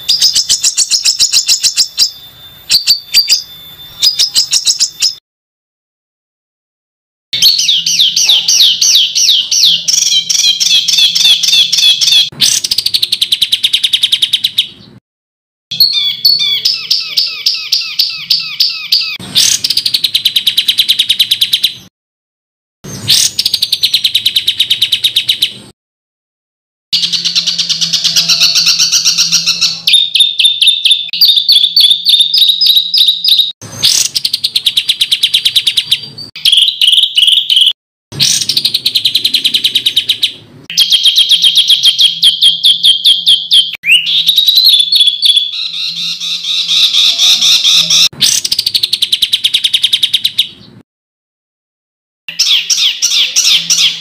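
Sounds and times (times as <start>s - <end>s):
songbird chattering trills: 0.0s - 5.2s, 7.4s - 14.8s, 15.7s - 21.9s, 27.0s - 50.7s, 52.3s - 54.0s.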